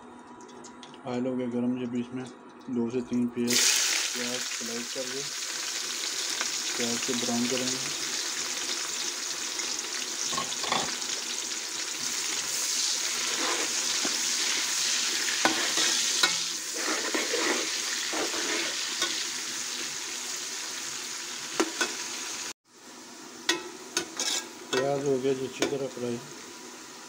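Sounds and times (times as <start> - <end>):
onions sizzling in oil: 3.5 - 27.0.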